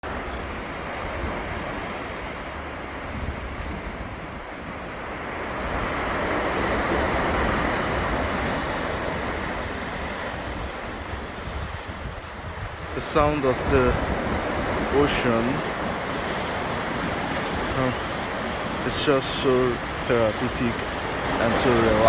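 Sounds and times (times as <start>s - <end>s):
waves breaking: 0.0s - 22.0s
wind rumbling on microphone: 0.0s - 22.0s.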